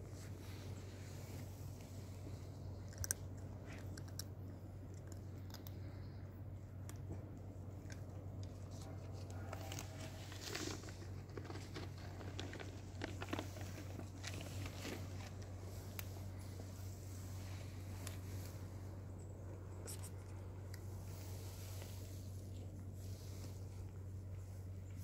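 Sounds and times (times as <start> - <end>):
cats crunching dry kibble: 0.0 - 25.0
steady low hum: 0.0 - 25.0.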